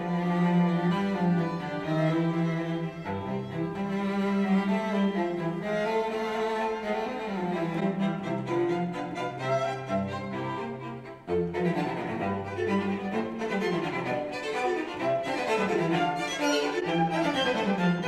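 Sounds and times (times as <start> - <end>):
cello low notes: 0.0 - 18.0
violins: 0.0 - 18.0.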